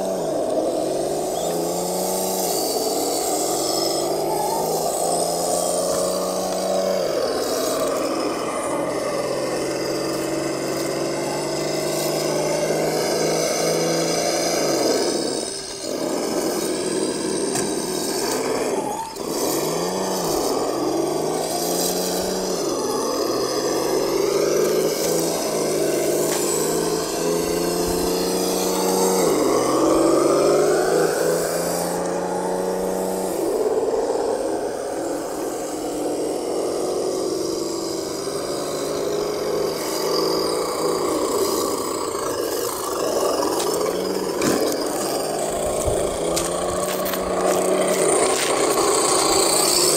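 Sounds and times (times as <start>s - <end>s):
electric motors whining: 0.0s - 49.9s.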